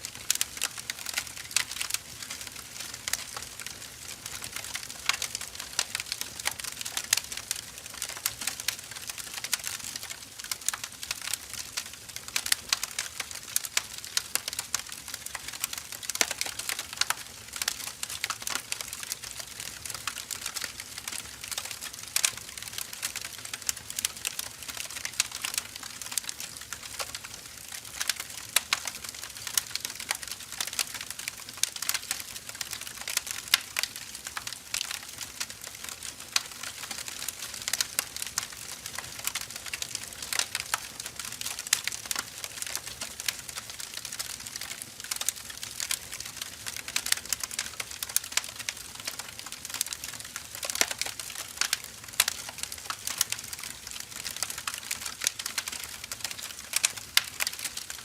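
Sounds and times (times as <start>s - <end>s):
firewood logs crackling and popping: 0.1s - 58.0s.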